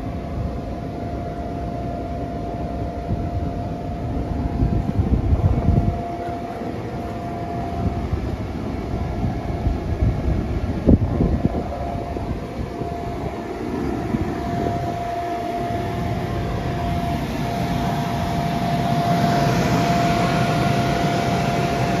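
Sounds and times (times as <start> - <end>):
electric air blower drone: 0.0 - 22.0
steady whine: 0.0 - 22.0.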